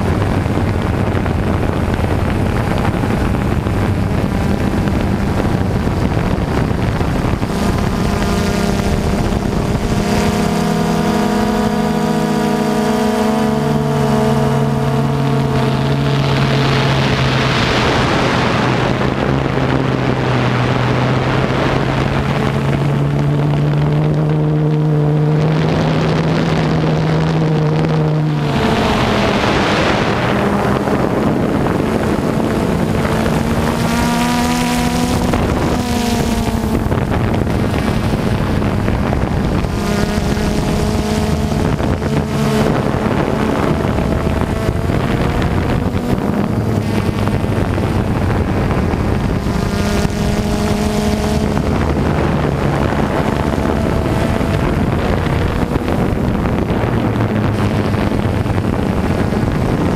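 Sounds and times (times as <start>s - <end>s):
drone propellers whirring: 0.0s - 59.9s
wind on microphone: 0.0s - 59.9s.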